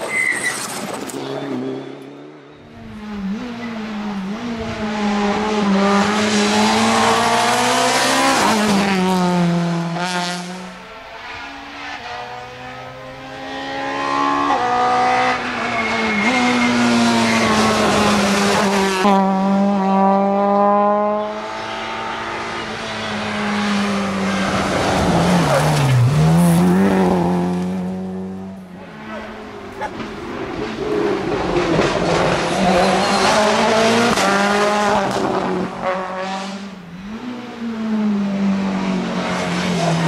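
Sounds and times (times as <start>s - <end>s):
rally car engine revving: 0.6s - 40.0s.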